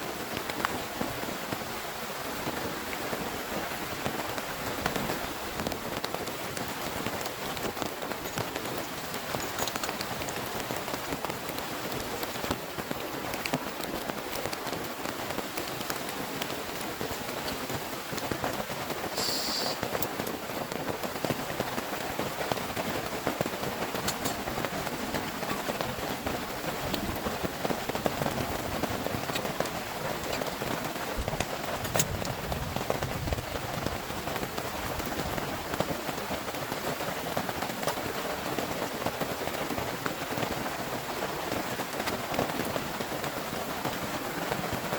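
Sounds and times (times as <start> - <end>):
heavy rain: 0.0 - 44.9
raindrops ticking on a surface: 0.1 - 44.9.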